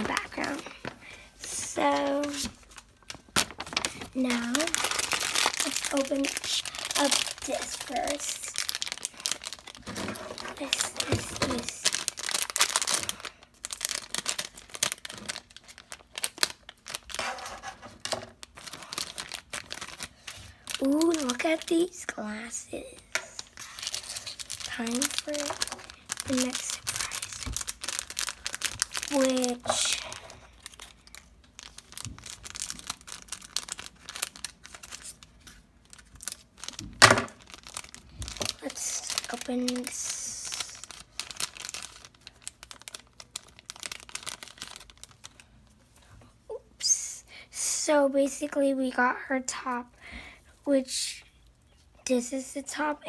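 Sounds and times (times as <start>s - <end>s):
plastic packaging crackling and tearing: 0.0s - 45.8s.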